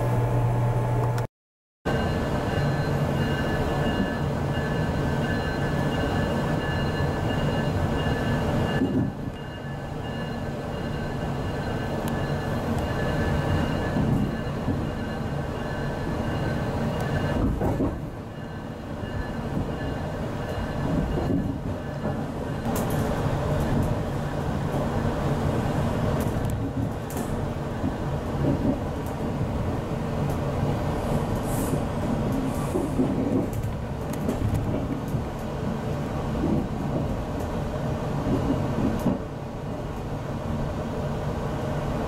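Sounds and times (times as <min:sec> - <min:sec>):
train coach rumbling: 0:01.9 - 0:42.0.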